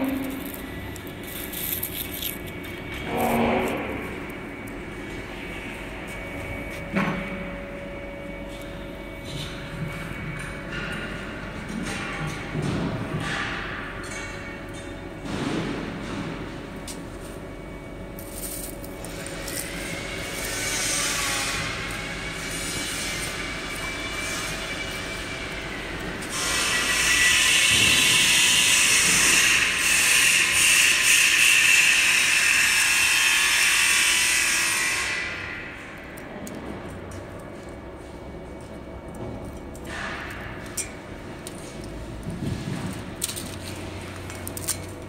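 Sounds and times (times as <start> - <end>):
conveyor dryer metallic running noise: 0.0 - 45.0.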